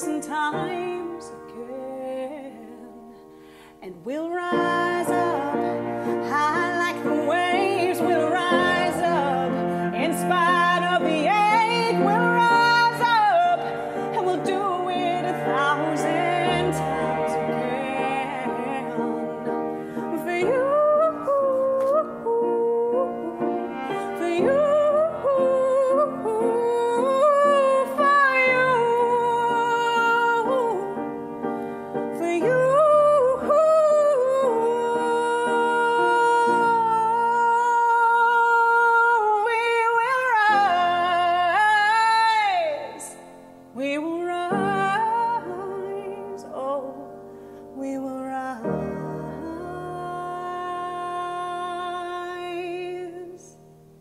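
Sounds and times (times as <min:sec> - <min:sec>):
woman singing: 0:00.0 - 0:31.1, 0:32.1 - 0:53.9
cello: 0:00.0 - 0:54.0
piano: 0:00.0 - 0:54.0.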